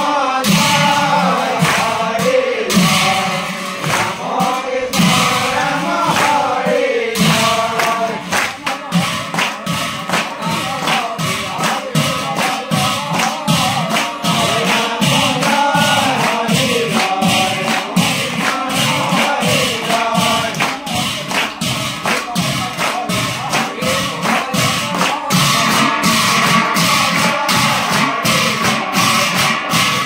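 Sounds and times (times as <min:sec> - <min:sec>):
group chanting: 0:00.0 - 0:30.0
rhythmic hand-clapping: 0:00.0 - 0:30.0.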